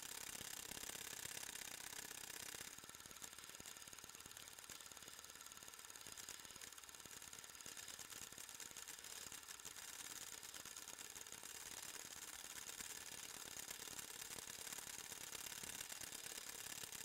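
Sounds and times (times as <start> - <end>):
film projector clicking: 0.0 - 17.0.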